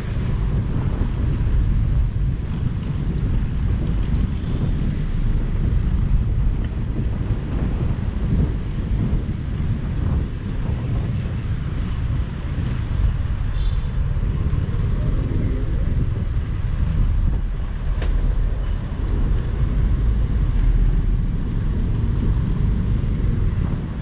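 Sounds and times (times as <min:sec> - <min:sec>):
trucks rumbling: 0:00.0 - 0:24.0
wind rush on microphone: 0:00.0 - 0:24.0.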